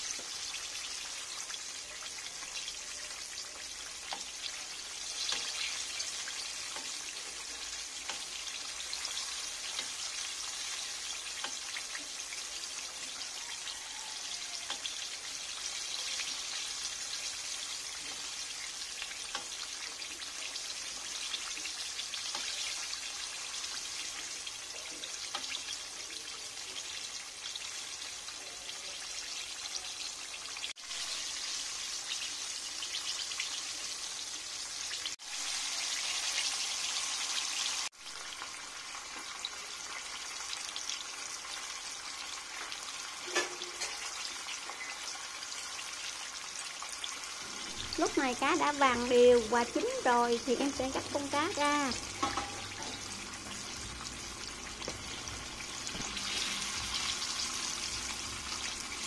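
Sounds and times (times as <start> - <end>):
oil sizzling around frying fish: 0.0 - 59.0.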